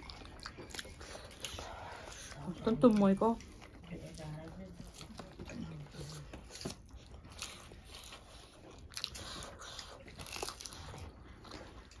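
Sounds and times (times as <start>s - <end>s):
chewing and crunchy bites: 0.0s - 12.0s.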